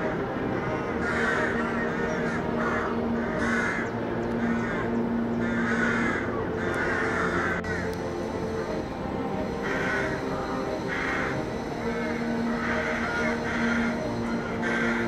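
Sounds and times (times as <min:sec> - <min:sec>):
rooks cawing: 0:00.0 - 0:15.0.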